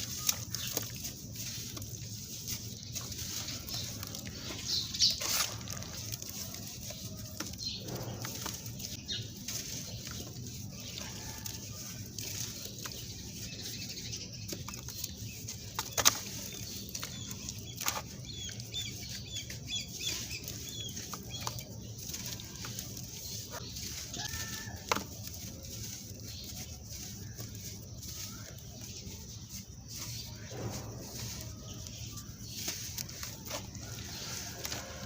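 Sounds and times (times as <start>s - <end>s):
dry clumps crumbling and cracking: 0.0s - 35.0s.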